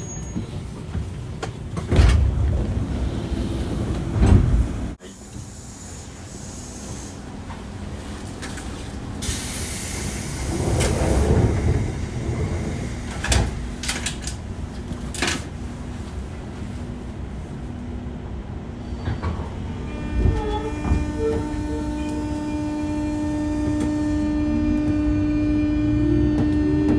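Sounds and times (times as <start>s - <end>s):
train doors closing with air hiss: 0.0s - 17.8s, 18.8s - 26.9s.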